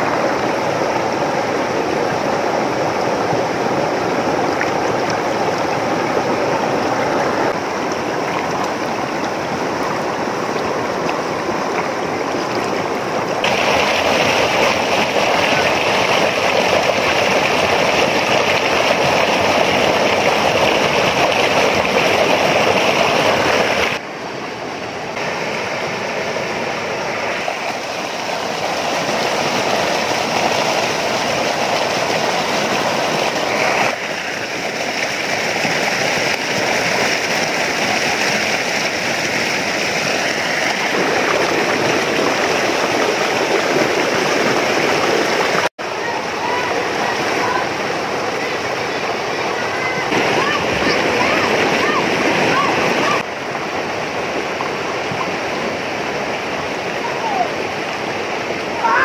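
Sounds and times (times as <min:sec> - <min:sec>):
stream rushing over weir: 0:00.0 - 0:59.0.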